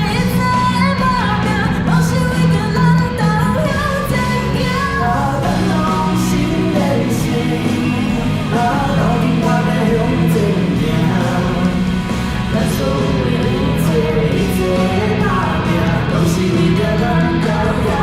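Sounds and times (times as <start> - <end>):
pop song with band: 0.0 - 18.0.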